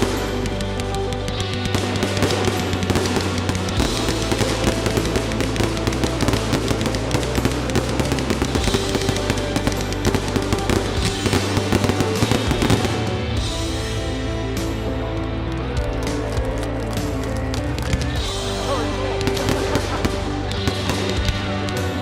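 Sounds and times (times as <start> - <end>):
fireworks crackling and banging: 0.0 - 22.0
music with bass line: 0.0 - 22.0.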